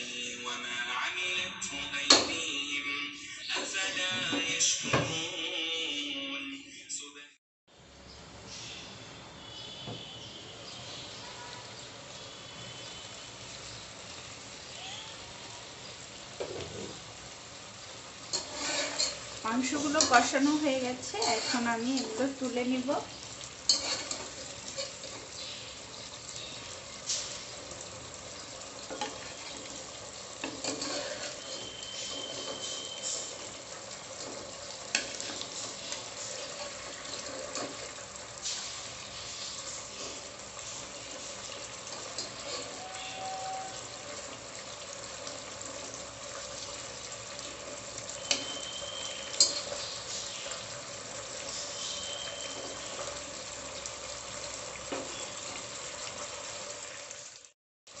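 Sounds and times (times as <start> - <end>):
gravy sizzling in a pot: 7.8 - 58.0.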